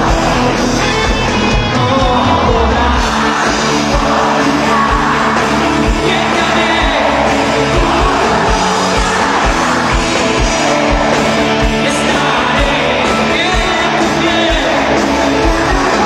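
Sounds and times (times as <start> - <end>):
electric guitars: 0.0 - 16.0
lead vocal singing: 0.0 - 16.0.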